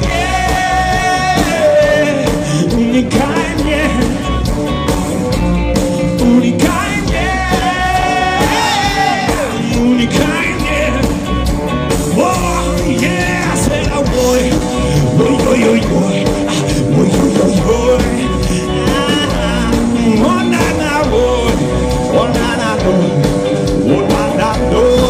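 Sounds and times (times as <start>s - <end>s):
person singing: 0.0s - 4.5s, 6.0s - 11.4s, 12.1s - 25.0s
live rock band playing: 0.0s - 25.0s.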